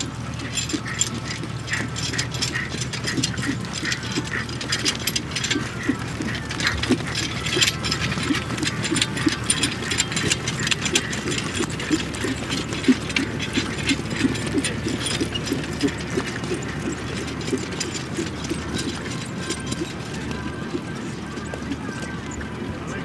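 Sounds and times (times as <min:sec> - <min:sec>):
carriage and harness rattling: 0:00.0 - 0:23.0
hoofbeats on grass: 0:00.0 - 0:23.0.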